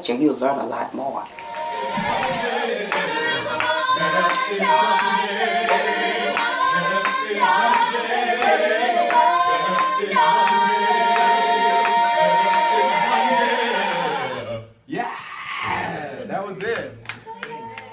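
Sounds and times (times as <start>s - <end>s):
vocal ensemble singing in harmony: 1.2s - 17.9s.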